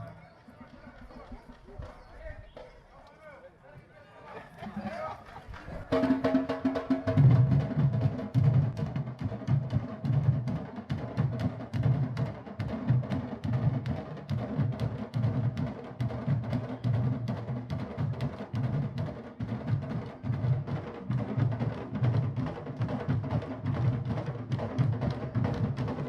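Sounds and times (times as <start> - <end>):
drum line playing: 4.5 - 26.0.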